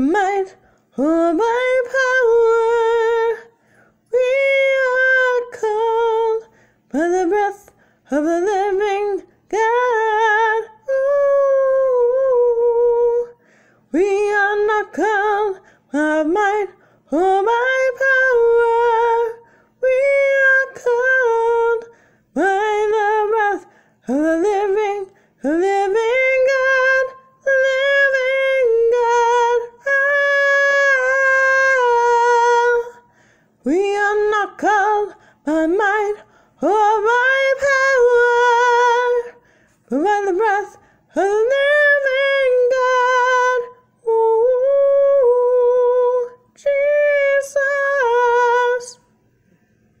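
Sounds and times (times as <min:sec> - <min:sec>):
woman singing unaccompanied: 0:00.0 - 0:49.1.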